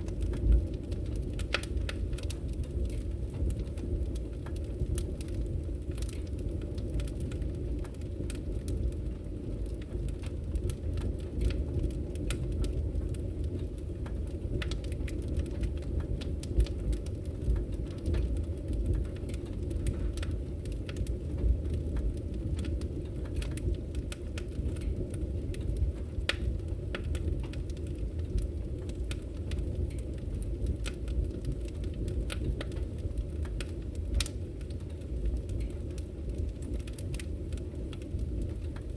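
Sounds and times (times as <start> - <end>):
wood fire crackling and roaring: 0.0 - 38.9.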